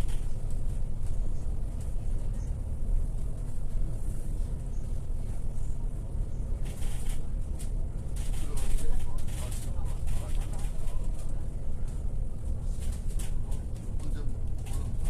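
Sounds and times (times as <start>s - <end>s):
bus engine and tyres rumbling: 0.0s - 15.0s.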